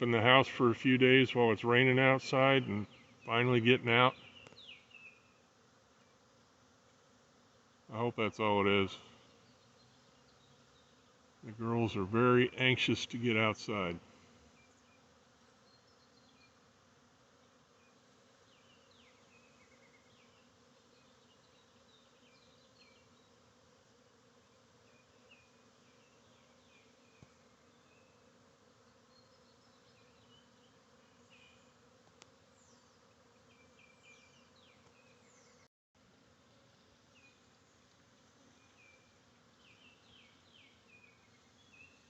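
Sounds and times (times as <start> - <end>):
honeybees humming: 0.0 - 42.0.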